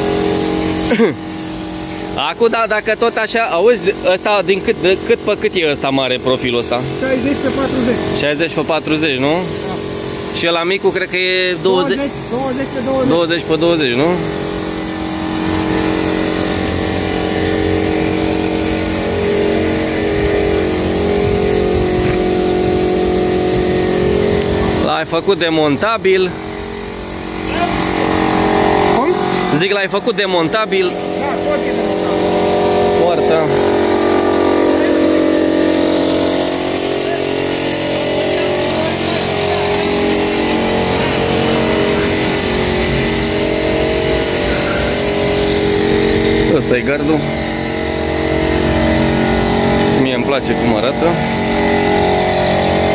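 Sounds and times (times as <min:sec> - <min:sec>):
paint spray hissing: 0:00.0 - 0:52.9
paint sprayer motor humming: 0:00.0 - 0:52.9.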